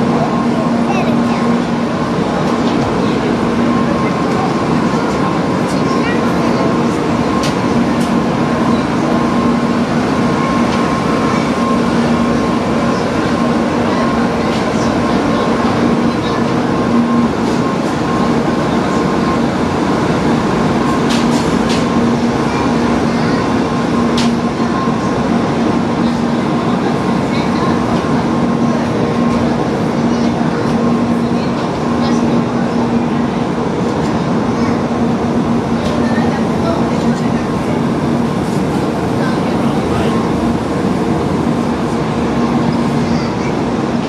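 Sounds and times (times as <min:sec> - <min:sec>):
train equipment hum and rush: 0:00.0 - 0:44.0.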